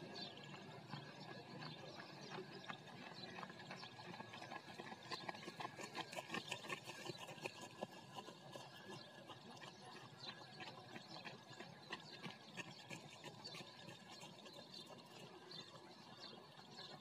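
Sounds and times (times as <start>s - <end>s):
running footsteps on dirt: 0.0s - 17.0s.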